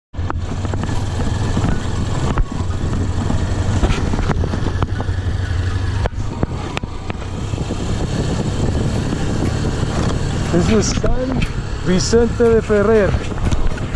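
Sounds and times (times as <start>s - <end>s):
motorcycle engine running: 0.2s - 13.9s
wind noise on microphone: 0.2s - 13.9s.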